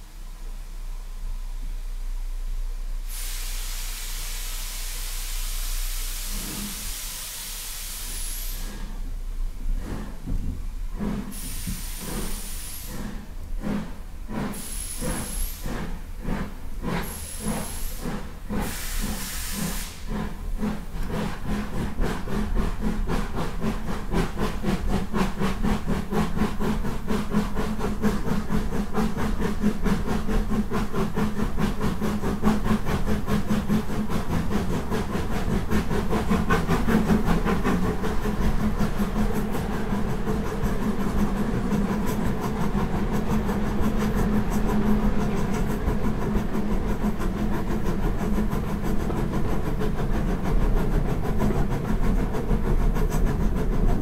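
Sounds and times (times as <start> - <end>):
steam hiss: 0.0 - 54.0
steam locomotive exhaust chuffs: 0.0 - 54.0.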